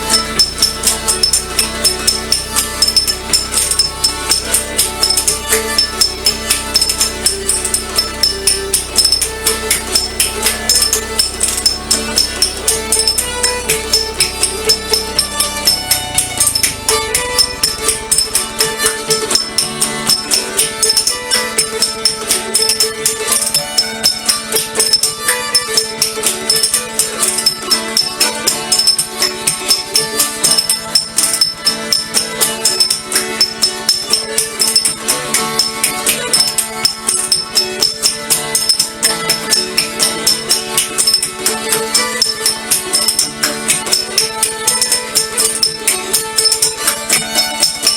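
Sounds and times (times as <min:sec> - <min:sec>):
held melody line: 0:00.0 - 0:47.9
tambourine jingling beat: 0:00.0 - 0:47.9.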